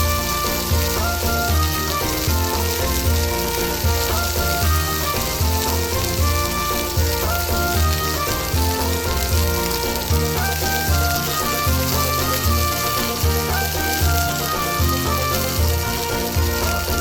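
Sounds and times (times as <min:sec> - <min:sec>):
music with pulsing bass: 0:00.0 - 0:17.0
sizzling hiss: 0:00.0 - 0:17.0.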